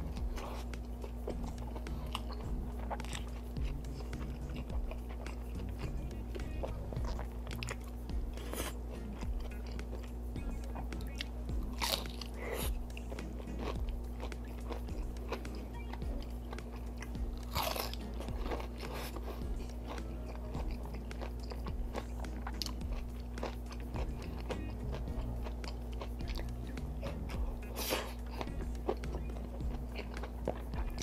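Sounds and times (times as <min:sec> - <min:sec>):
chewing crispy fried chicken: 0:00.0 - 0:31.0.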